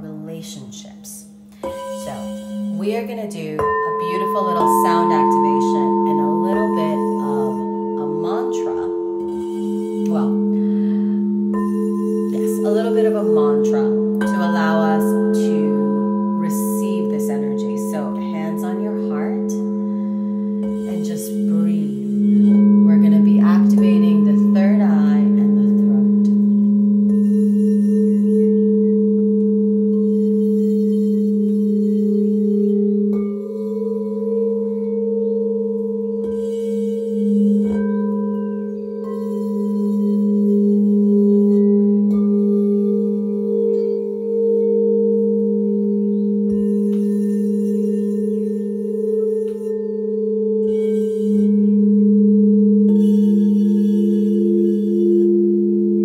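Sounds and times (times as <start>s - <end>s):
singing bowls ringing: 1.4s - 56.0s.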